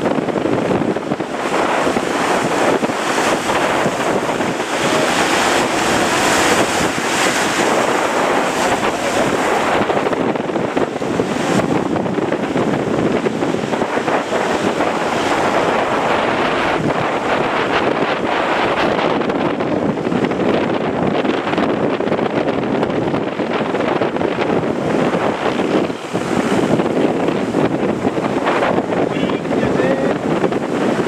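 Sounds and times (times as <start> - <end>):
large waves breaking: 0.0 - 31.0
wind on microphone: 0.0 - 31.0.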